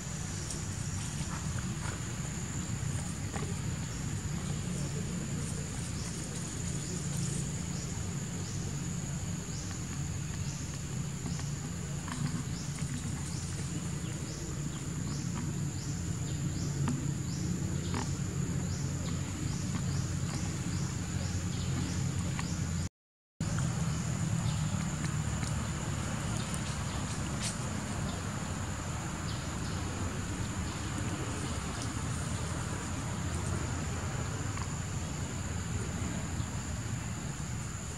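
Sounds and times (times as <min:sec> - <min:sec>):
high insect drone: 0:00.0 - 0:22.6, 0:23.4 - 0:37.9.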